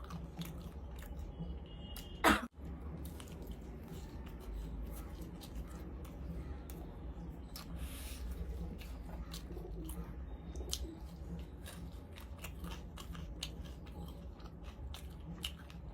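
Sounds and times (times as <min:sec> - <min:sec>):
person chewing crunchy food: 0:00.0 - 0:15.9.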